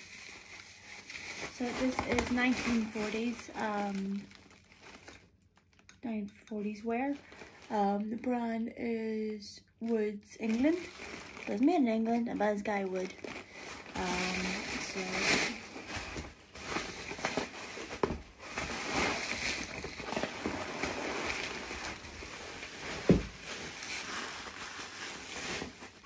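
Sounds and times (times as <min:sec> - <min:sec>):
bubble wrap crinkling: 0:00.0 - 0:05.9, 0:06.8 - 0:08.3, 0:09.8 - 0:26.0.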